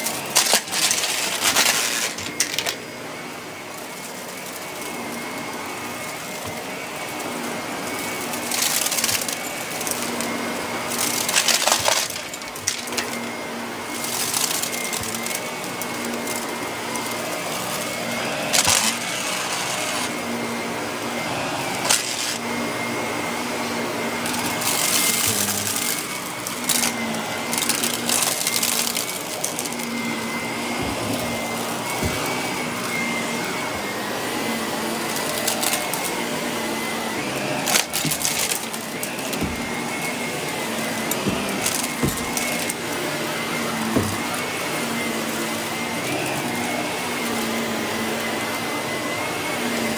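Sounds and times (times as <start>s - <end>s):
vacuum cleaner running over carpet: 0.0s - 49.9s.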